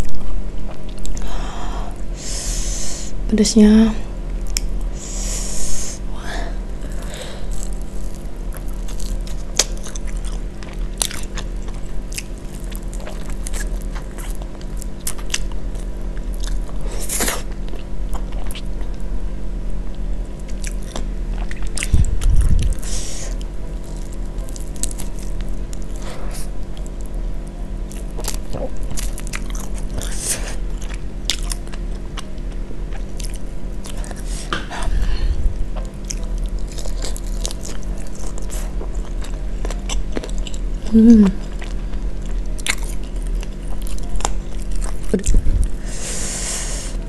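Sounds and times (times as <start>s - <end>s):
person chewing crispy food: 6.7s - 19.1s, 20.4s - 27.2s, 27.8s - 47.0s.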